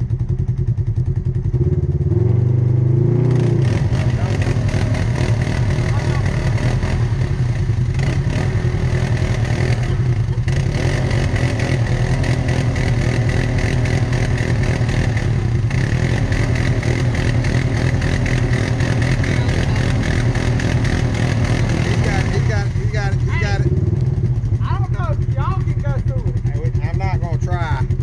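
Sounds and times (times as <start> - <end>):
four-wheeler engine running: 0.0 - 28.0
vehicle rattle: 3.4 - 28.0.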